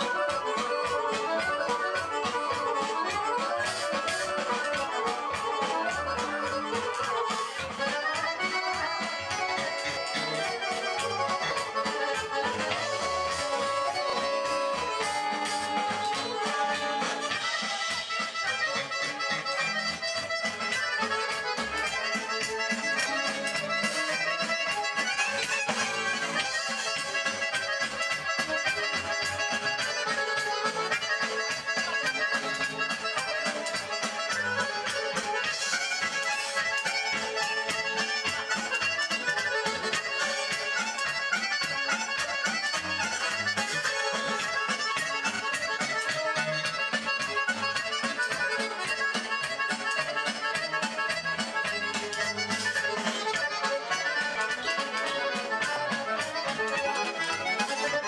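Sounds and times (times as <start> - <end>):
accordion playing folk tune: 0.0 - 58.0
band with fast beat: 0.0 - 58.0.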